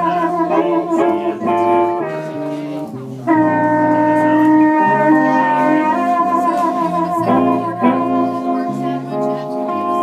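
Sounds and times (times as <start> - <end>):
electric guitar: 0.0 - 10.0
harmonica: 0.0 - 10.0
walking electric bass line: 0.0 - 10.0.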